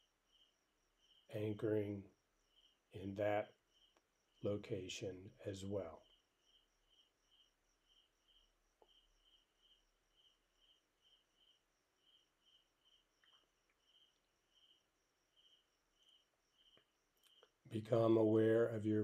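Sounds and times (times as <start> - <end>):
insect chirping: 0.0 - 18.2.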